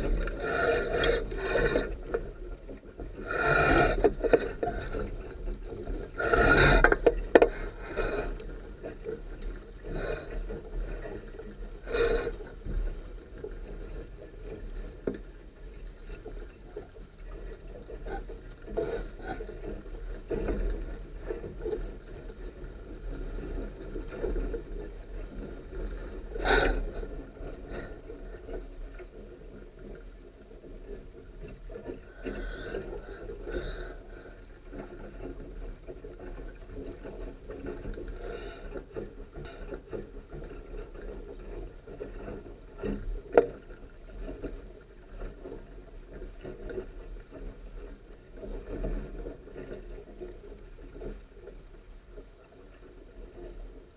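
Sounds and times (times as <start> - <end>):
wind rumbling on microphone: 0.0 - 52.4
water rushing along hull: 0.0 - 53.9.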